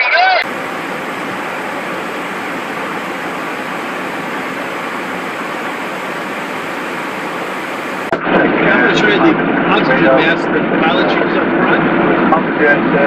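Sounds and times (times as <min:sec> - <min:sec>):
jet cabin airflow and engine noise: 0:00.4 - 0:13.0.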